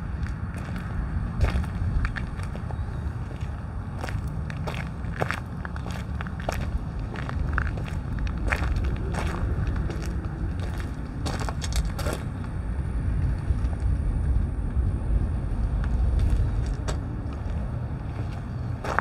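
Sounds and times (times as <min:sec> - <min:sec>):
steady low rumble: 0:00.0 - 0:19.0
footsteps crunching on gravel: 0:00.1 - 0:12.5, 0:15.9 - 0:19.0.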